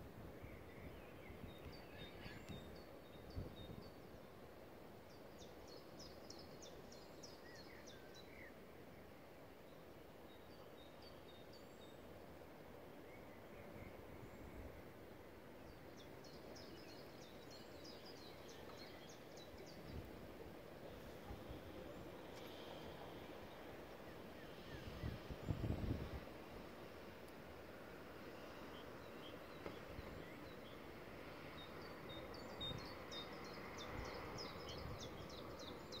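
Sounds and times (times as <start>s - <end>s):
faint outdoor background noise: 0.0s - 36.0s.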